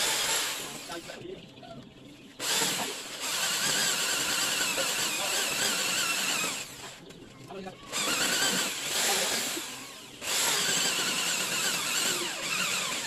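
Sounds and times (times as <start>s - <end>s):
electric drill boring wood: 0.0s - 1.1s, 2.4s - 7.0s, 7.9s - 13.0s.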